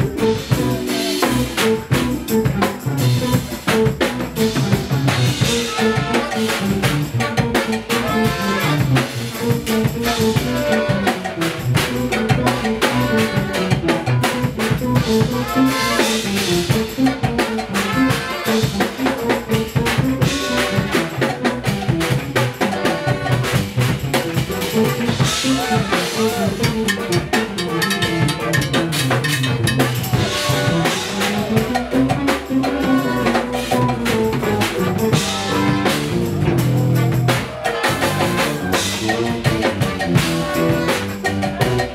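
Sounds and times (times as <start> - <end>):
drum kit beat: 0.0 - 41.9
electric bass line: 0.0 - 41.9
jazz fusion band playing: 0.0 - 41.9
saxophone: 0.0 - 41.9
trumpet: 0.0 - 41.9.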